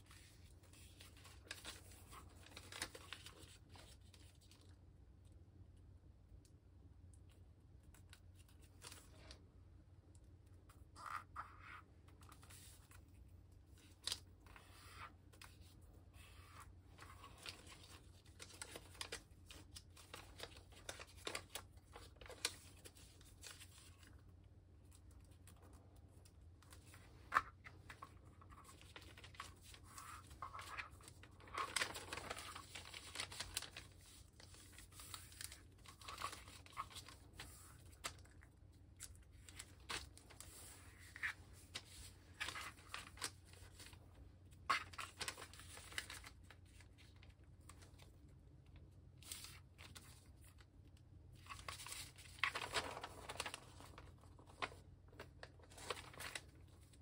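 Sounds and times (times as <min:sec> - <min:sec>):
paper rustling and crinkling: 0:00.0 - 0:04.8, 0:07.9 - 0:09.4, 0:10.7 - 0:48.4, 0:49.1 - 0:57.0.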